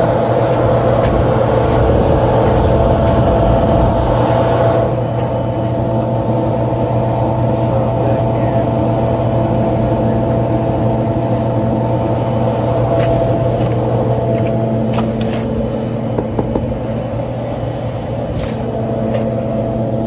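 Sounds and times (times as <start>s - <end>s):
hvac unit humming: 0.0s - 20.0s.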